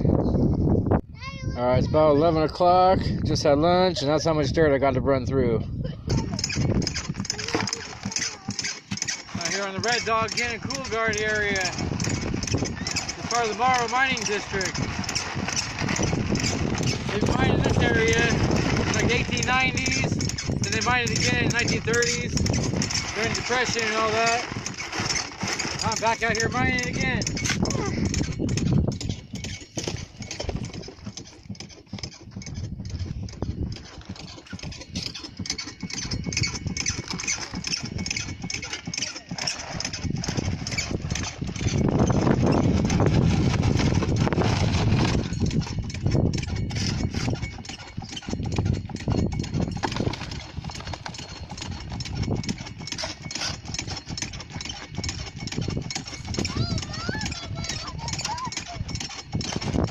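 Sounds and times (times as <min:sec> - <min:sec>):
small engine rumble: 0:06.0 - 0:59.9
rocks and gravel clattering: 0:06.1 - 0:59.9.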